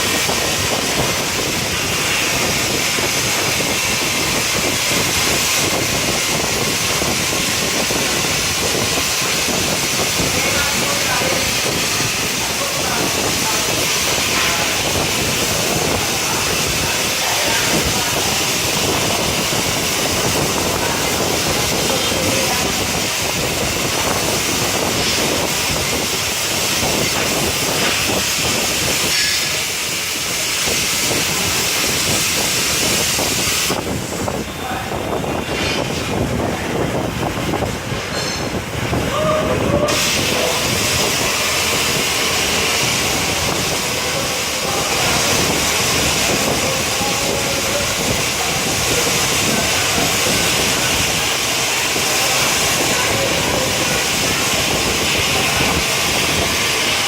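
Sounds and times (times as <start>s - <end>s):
plasma torch cutting sheet metal: 0.0s - 57.0s.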